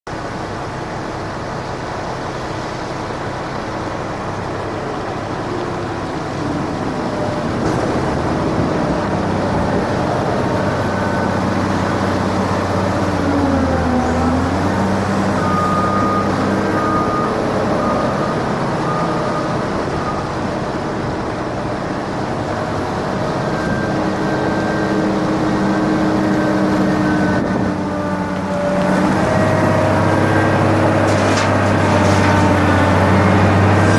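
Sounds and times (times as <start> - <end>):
diesel machinery engines running: 0.1 - 33.9.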